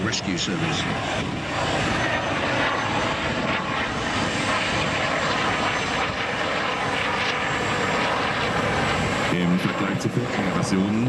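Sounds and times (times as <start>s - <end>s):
helicopter flying past: 0.0s - 11.0s.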